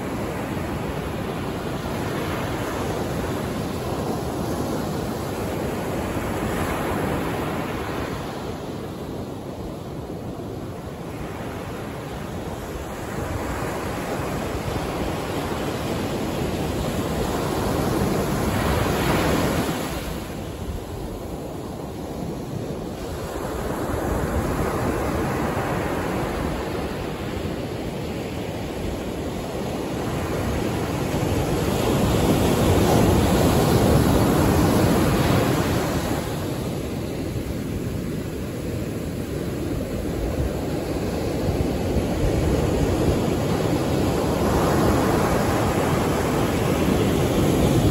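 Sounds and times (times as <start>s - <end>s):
ocean surf breaking on beach: 0.0s - 47.9s.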